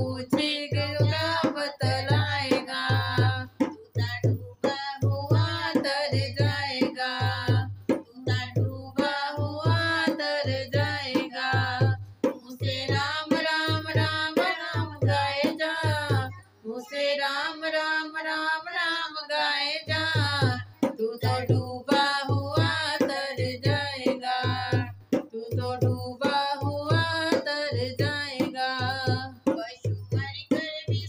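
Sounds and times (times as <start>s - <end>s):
hand drum beat: 0.0s - 16.4s, 19.8s - 31.0s
woman singing: 0.0s - 31.0s.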